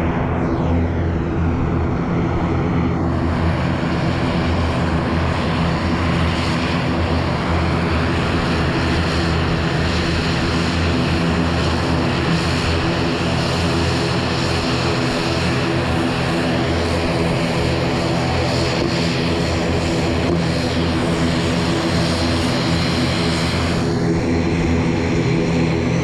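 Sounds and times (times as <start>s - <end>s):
turboprop propeller hum: 0.0s - 26.0s.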